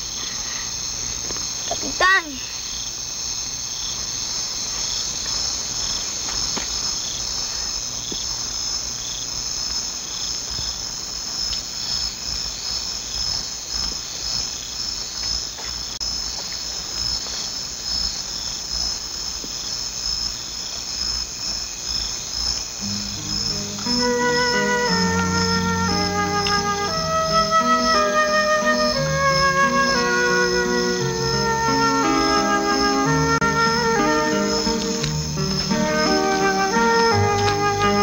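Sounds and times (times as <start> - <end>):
insects trilling: 0.0 - 38.0
pulsing insect chirp: 0.0 - 38.0.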